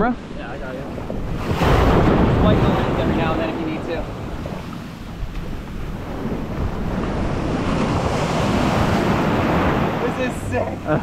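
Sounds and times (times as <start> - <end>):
ocean surf washing: 0.0 - 11.0.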